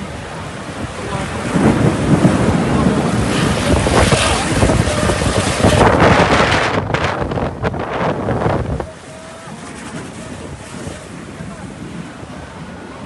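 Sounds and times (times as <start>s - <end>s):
heavy rain: 0.0s - 13.0s
wind gusting against microphone: 0.0s - 13.0s.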